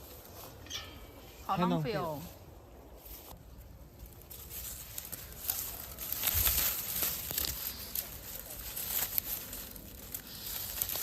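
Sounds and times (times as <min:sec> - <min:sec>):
dry leaves and twigs rustling: 0:00.0 - 0:11.0.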